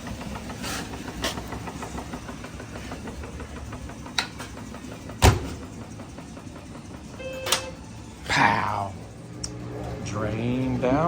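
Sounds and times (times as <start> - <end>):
washing machine pump humming: 0.0 - 11.0.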